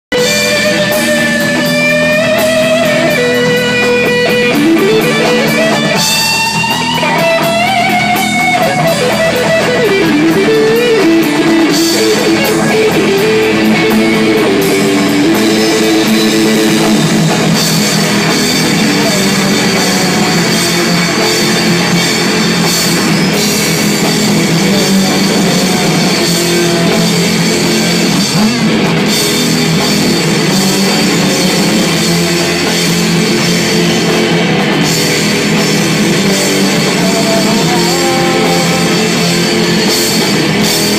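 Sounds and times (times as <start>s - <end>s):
loud rock music: 0.0s - 40.9s.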